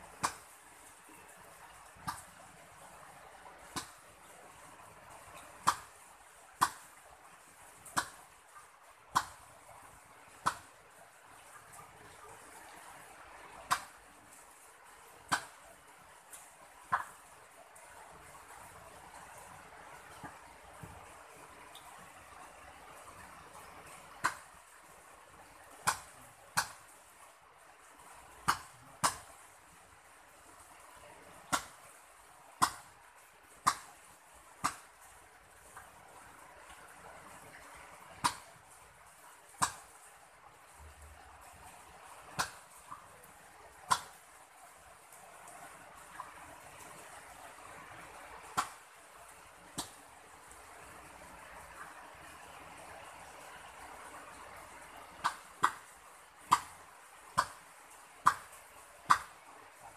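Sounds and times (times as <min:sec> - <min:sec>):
faint steady hiss: 0:00.0 - 0:59.9
light rain falling: 0:00.0 - 0:59.9
water dripping on hard surface: 0:00.0 - 0:59.9.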